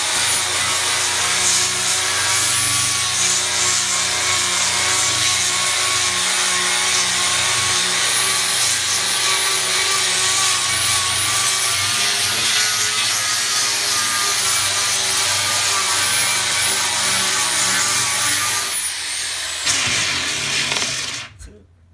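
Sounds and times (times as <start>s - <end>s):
orbital sander sanding wood: 0.0s - 21.2s.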